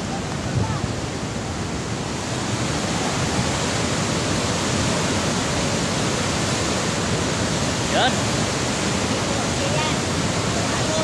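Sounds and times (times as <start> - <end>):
water rushing from dam gates: 0.0 - 11.0.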